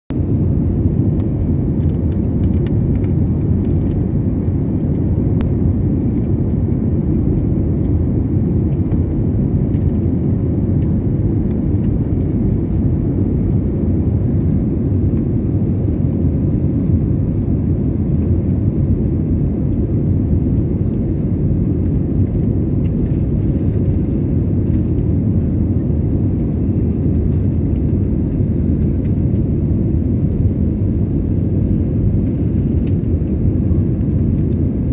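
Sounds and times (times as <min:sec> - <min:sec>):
jet engine cabin rumble: 0:00.1 - 0:34.9.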